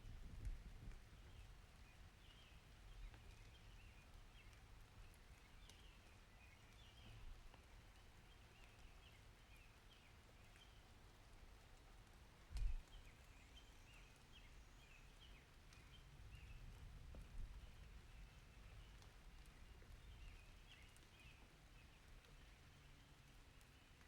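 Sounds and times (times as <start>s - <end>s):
small birds chirping: 1.2s - 11.0s, 12.6s - 24.0s.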